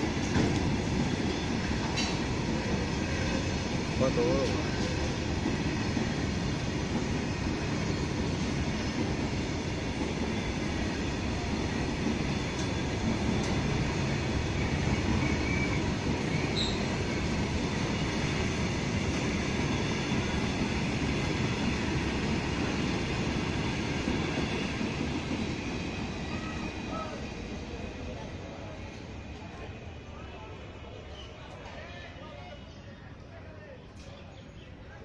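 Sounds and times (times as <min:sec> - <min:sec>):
steel wheels rumbling on rails: 0:00.0 - 0:29.9.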